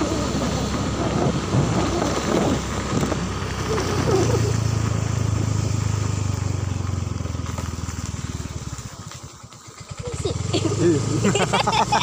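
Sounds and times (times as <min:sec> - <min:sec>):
small motorcycle engine: 0:00.0 - 0:12.0.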